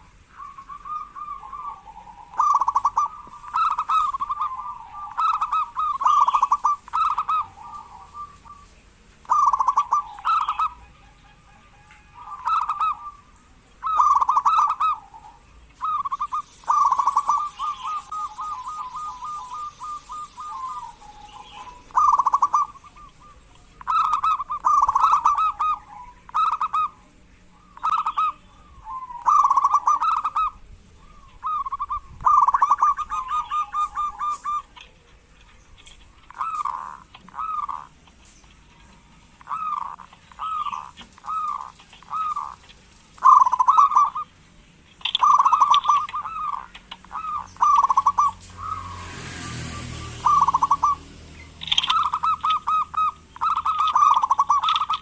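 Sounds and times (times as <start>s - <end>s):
dove cooing: 0.0s - 55.0s
dove rolling trill: 0.0s - 55.0s.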